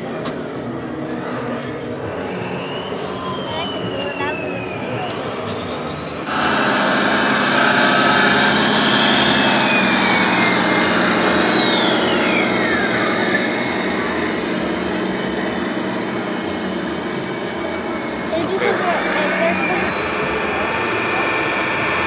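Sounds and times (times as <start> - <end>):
model truck engine drone and whine: 0.0 - 22.0.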